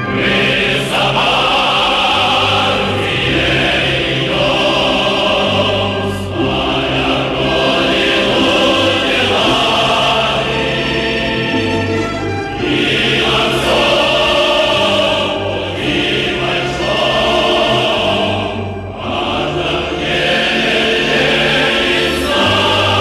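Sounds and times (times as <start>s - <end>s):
choir singing: 0.0s - 23.0s
orchestral accompaniment: 0.0s - 23.0s.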